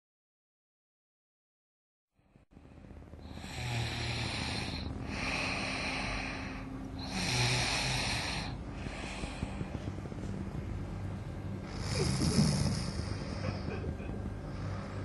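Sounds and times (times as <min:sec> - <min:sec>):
low hum: 0:02.2 - 0:15.0.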